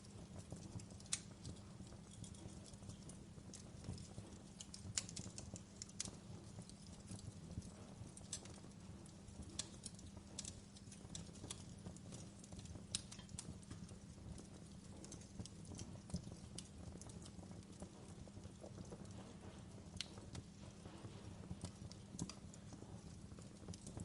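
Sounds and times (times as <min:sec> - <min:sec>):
campfire crackling: 0:00.0 - 0:24.0
low rumble of burning: 0:00.0 - 0:24.0.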